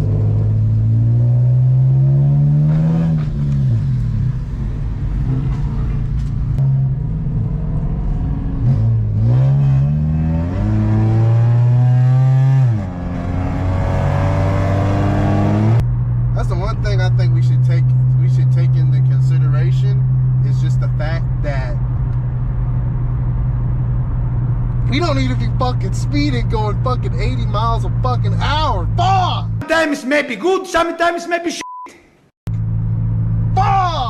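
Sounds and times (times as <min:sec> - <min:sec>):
car engine accelerating: 0:00.0 - 0:29.6.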